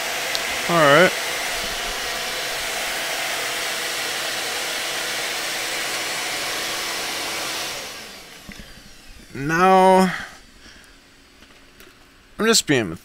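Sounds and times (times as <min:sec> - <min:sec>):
air blower running: 0:00.0 - 0:12.4.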